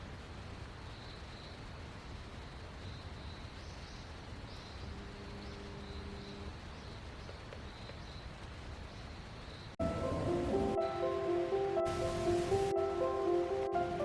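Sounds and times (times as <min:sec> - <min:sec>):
steady hiss and low rumble: 0:00.0 - 0:14.0.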